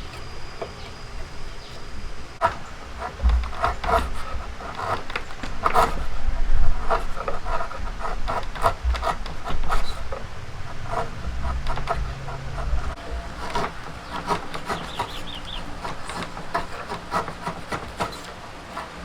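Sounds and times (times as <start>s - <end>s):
hand tool scraping wood: 0.0s - 19.0s.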